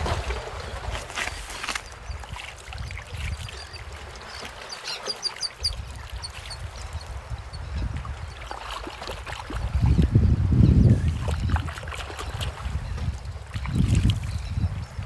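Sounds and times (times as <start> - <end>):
wind rumble on microphone: 0.0 - 4.6, 5.5 - 15.0
water trickling and splashing: 0.0 - 15.0.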